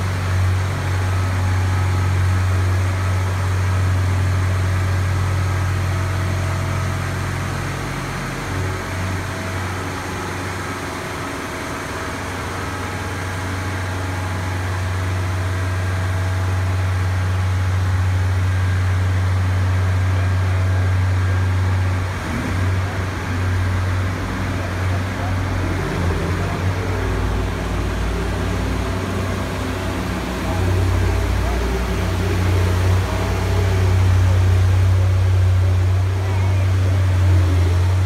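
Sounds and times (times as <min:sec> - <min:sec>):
heavy machinery engine droning: 0:00.0 - 0:38.0.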